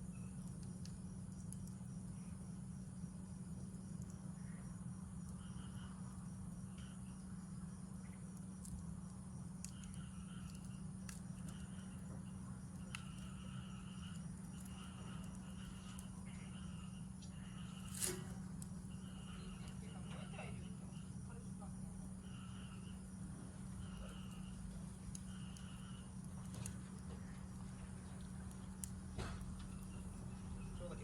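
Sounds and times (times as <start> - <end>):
campfire popping: 0.0 - 31.0
crickets chirping: 0.0 - 31.0
low hum: 0.0 - 31.0.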